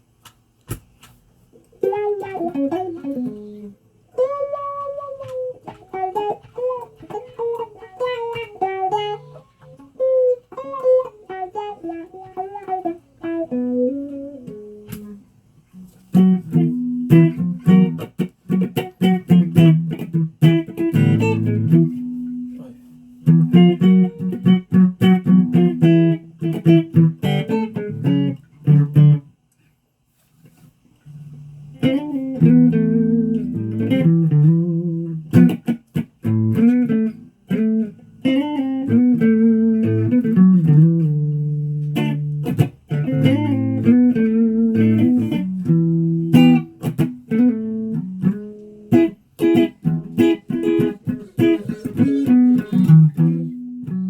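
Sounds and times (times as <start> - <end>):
guitar plucked notes: 1.8 - 15.2, 15.8 - 29.3, 31.2 - 54.0.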